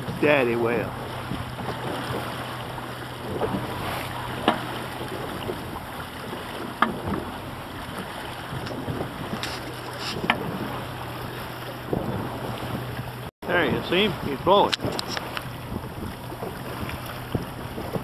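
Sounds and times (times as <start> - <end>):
outboard motor idling: 0.0 - 18.0
wind on microphone: 0.0 - 18.0.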